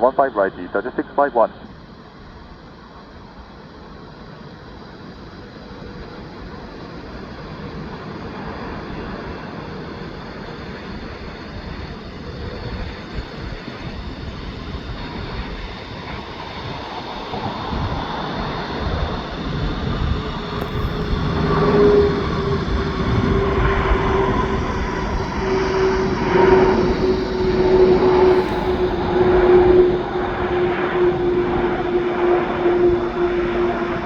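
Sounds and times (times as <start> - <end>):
jet engine rumble: 0.0 - 34.0
jet engine whine: 0.0 - 34.0.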